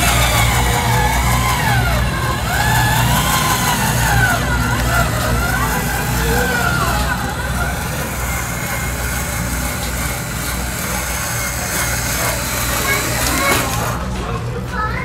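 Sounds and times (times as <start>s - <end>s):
chatter of voices: 0.0s - 15.0s
toy truck engine drone: 0.0s - 15.0s.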